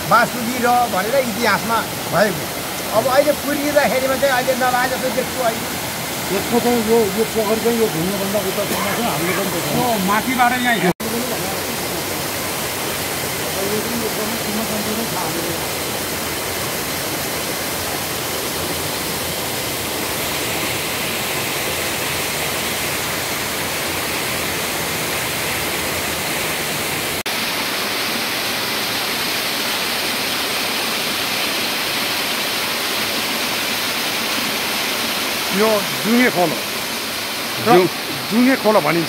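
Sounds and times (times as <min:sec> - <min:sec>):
fast-flowing stream water: 0:00.0 - 0:39.0.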